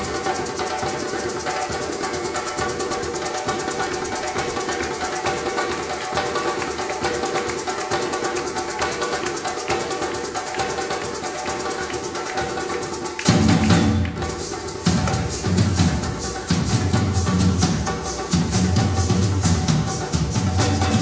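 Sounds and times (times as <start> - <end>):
musicians playing improvised music: 0.0 - 21.0.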